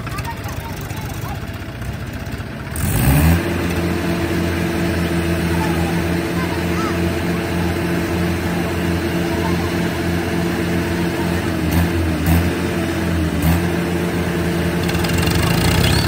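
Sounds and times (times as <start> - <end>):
tractor diesel engines under load: 0.0 - 16.0.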